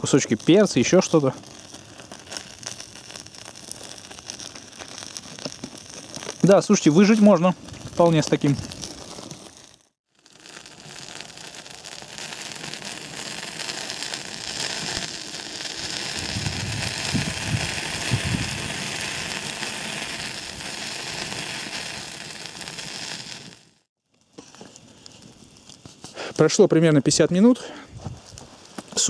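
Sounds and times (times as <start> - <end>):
log fire crackling: 0.0 - 29.0.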